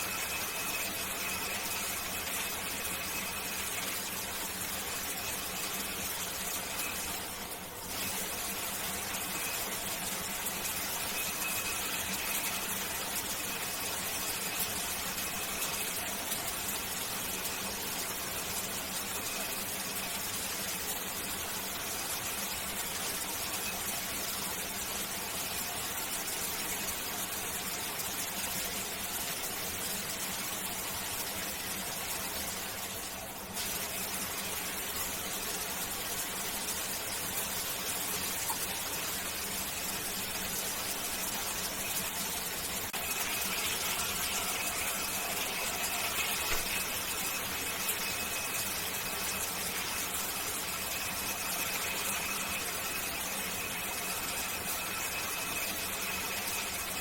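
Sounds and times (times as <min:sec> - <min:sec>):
faint high whine: 0:00.0 - 0:57.0
shower water spraying: 0:00.0 - 0:57.0.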